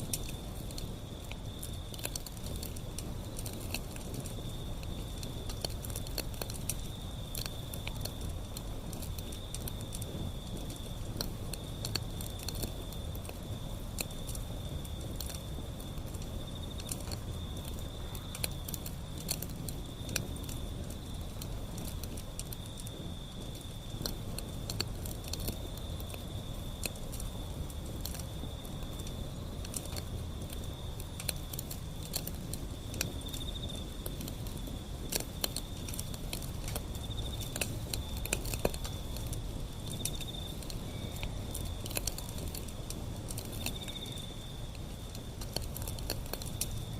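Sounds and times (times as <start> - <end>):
insect trill: 0.0 - 46.9
wood fire crackling and popping: 0.0 - 46.9.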